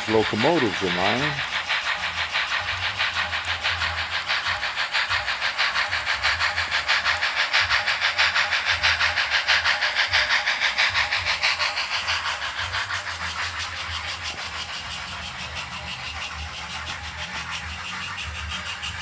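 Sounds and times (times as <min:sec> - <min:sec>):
steam locomotive chuffs: 0:00.0 - 0:19.0.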